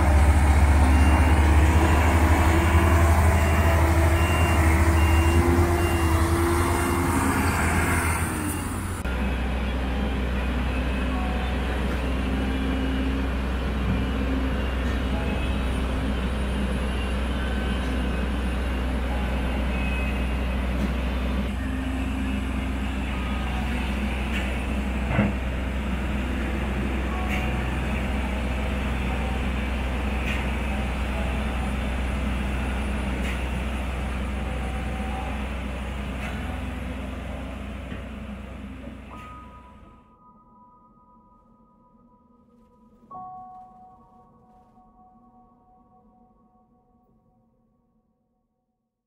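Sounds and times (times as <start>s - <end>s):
excavator diesel engine rumbling: 0.0s - 40.0s.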